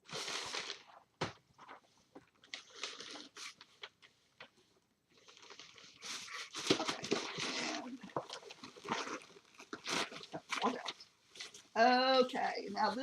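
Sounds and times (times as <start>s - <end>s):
packaging rustling and crinkling: 0.0s - 4.6s, 5.2s - 11.6s.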